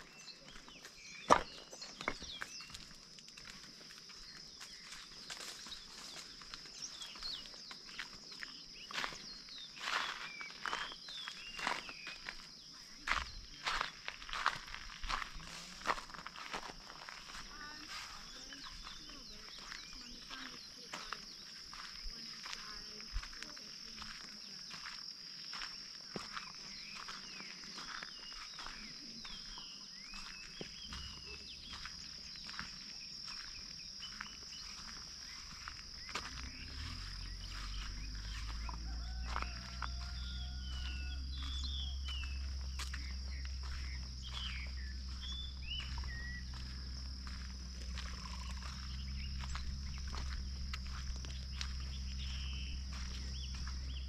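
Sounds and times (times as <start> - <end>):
insect drone: 0.0 - 54.0
soft footsteps: 0.0 - 54.0.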